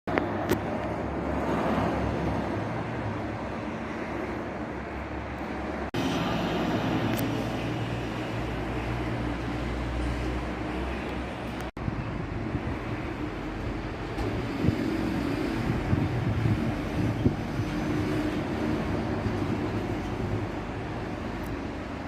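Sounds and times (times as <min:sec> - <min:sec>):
heavy vehicle engine rumbling: 0:00.1 - 0:22.0
street noise: 0:00.1 - 0:22.0.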